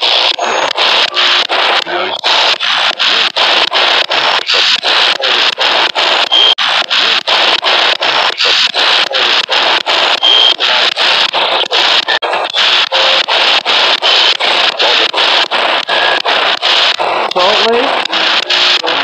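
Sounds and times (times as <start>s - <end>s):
radio static bursts: 0.0s - 19.0s.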